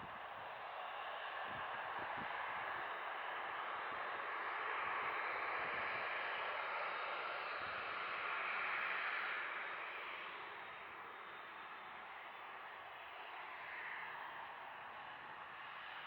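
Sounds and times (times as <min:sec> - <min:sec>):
distant jet engines at takeoff: 0:00.0 - 0:16.0.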